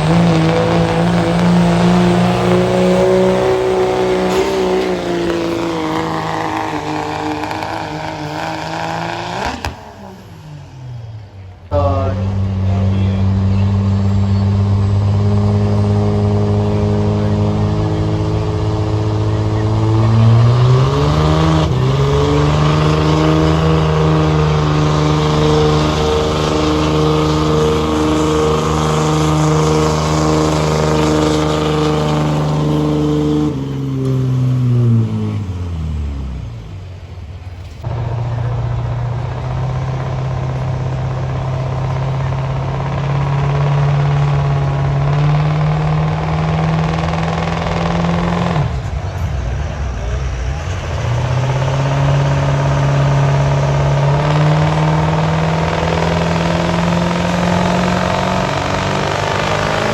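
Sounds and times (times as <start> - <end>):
diesel truck engine revving: 0.0 - 59.9
steady engine sound: 0.0 - 59.9.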